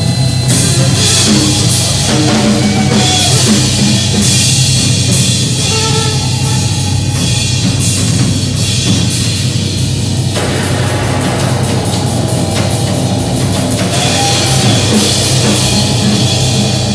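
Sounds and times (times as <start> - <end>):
drum kit with cymbal crashes: 0.0 - 16.9.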